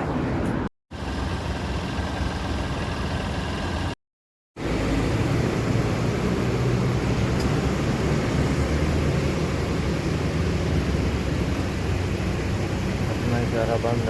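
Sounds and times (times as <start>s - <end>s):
low engine hum: 0.0s - 4.0s, 4.6s - 14.0s
road and wind noise: 0.0s - 4.0s, 4.6s - 14.0s.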